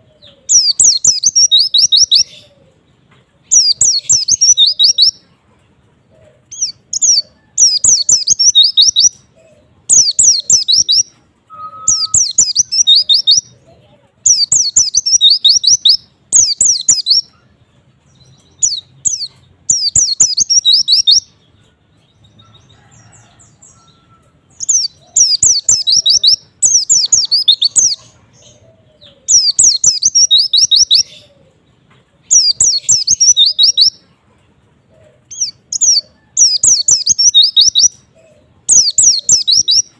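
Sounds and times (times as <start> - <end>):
bird twittering song: 0.0 - 5.4, 6.4 - 34.1, 35.2 - 39.9.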